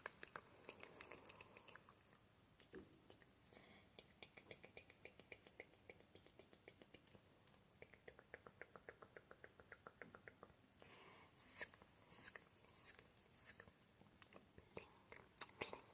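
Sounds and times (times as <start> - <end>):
soft mouth clicks: 0.0 - 10.8, 11.5 - 15.9.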